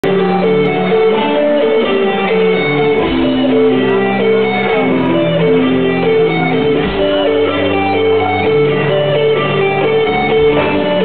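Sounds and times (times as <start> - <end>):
bass line: 0.0 - 11.0
electric guitar: 0.0 - 11.0
rock band playing: 0.0 - 11.0.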